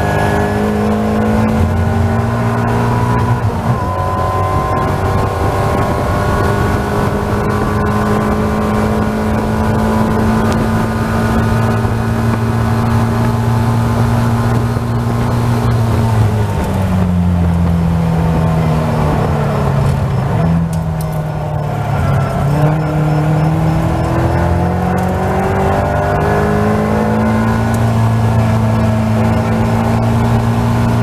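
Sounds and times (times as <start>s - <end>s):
race car engine revving: 0.0s - 31.0s.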